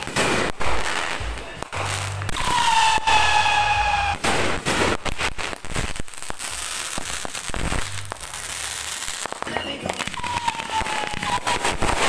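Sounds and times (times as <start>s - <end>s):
firework whistling: 0.0s - 12.0s
fireworks crackling and banging: 0.0s - 12.0s.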